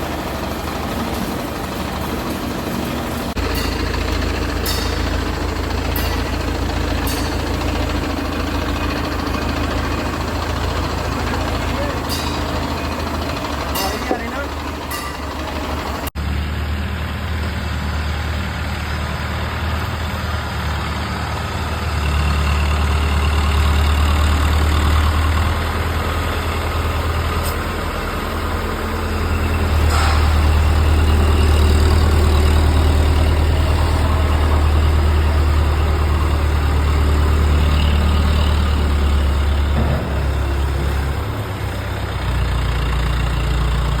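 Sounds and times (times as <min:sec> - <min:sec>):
wood chipper droning: 0:00.0 - 0:44.0.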